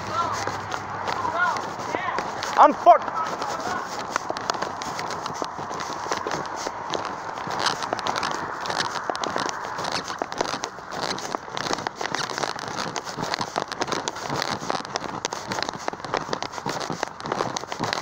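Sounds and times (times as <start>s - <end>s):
flip-flop footsteps on concrete: 0.0s - 18.0s
microphone handling noise: 0.0s - 18.0s.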